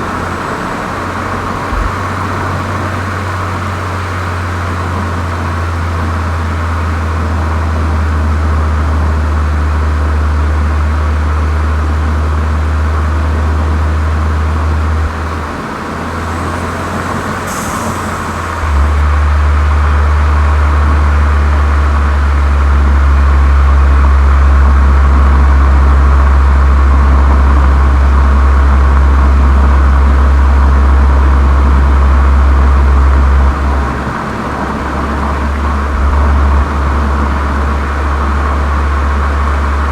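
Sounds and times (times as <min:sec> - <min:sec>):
car engine droning on the move: 0:00.0 - 0:39.9.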